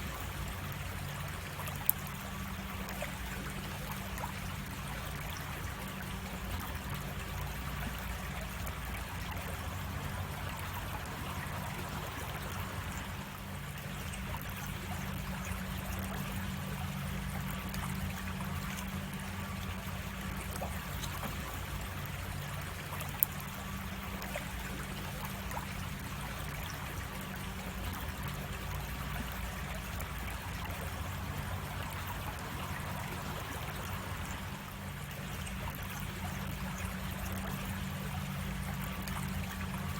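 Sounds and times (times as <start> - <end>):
water rushing over cascade: 0.0 - 39.9.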